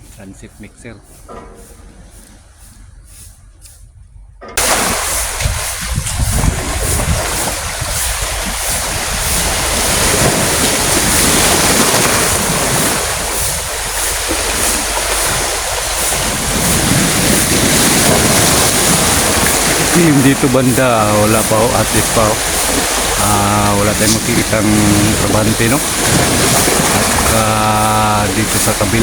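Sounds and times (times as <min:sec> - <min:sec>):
wind buffeting microphone: 0:00.0 - 0:29.0
steady rushing noise: 0:04.6 - 0:29.0.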